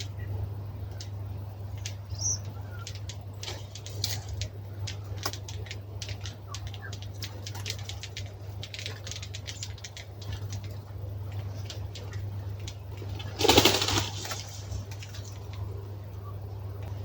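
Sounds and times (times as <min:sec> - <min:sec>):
birds ticking call notes: 0:00.0 - 0:16.9
steady low hum: 0:00.0 - 0:17.0.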